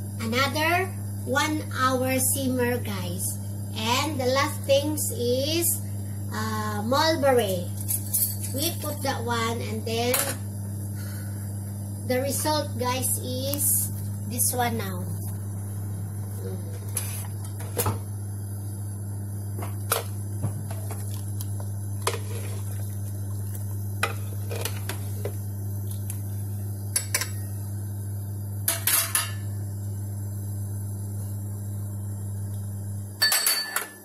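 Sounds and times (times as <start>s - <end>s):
low hum: 0.0s - 33.4s.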